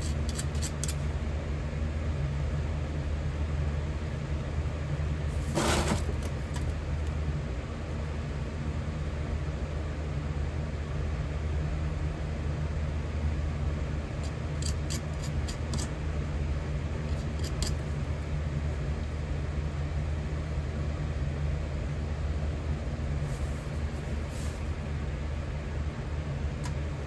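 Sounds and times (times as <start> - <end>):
furnace low rumble: 0.0 - 27.0.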